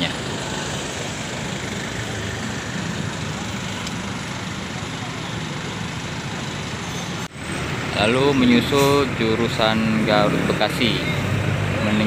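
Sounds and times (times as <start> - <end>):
bus engine running: 0.0 - 12.0
surrounding traffic: 0.0 - 12.0.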